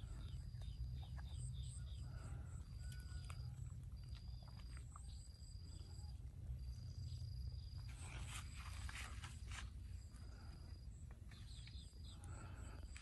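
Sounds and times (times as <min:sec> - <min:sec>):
faint chirps: 0:00.0 - 0:08.7, 0:09.9 - 0:13.0
low steady rumble: 0:00.0 - 0:13.0.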